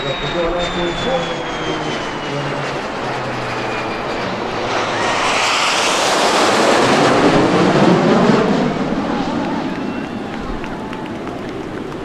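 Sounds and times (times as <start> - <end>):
aircraft engines whining overhead: 0.0 - 12.0
jet rush: 0.0 - 12.0.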